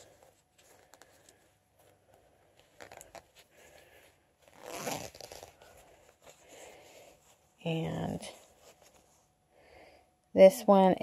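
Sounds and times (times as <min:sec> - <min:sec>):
fabric belt rustles and ticks: 0:00.0 - 0:09.3.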